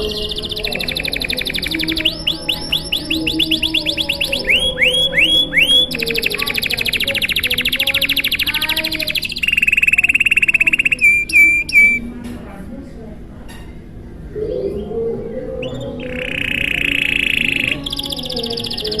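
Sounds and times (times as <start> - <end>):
canary singing: 0.0 - 12.1, 14.4 - 19.0.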